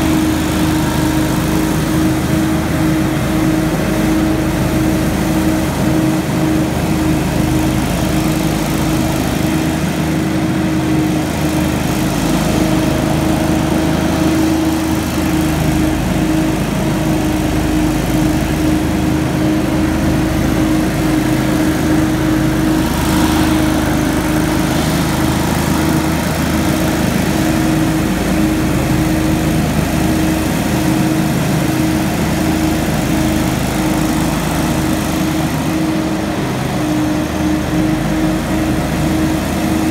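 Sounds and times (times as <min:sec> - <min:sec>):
leaf blower engine drone: 0:00.0 - 0:39.9.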